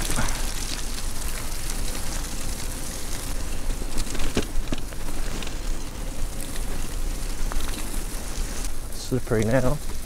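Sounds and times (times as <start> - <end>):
bicycle tyres rolling on mud: 0.0 - 10.0.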